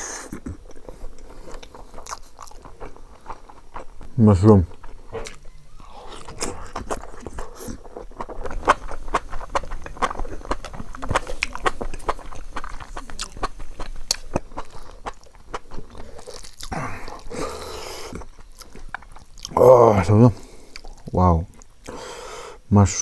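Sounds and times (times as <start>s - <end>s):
close chewing with lip smacks: 0.2s - 19.6s, 20.6s - 22.0s.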